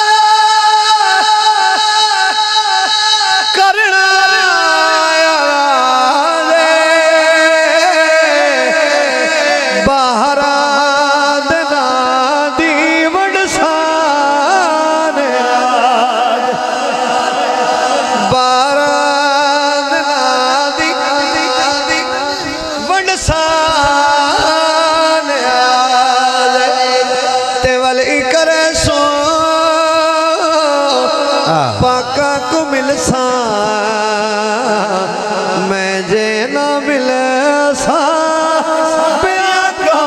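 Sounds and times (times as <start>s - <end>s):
man singing into a microphone: 0.0s - 40.0s.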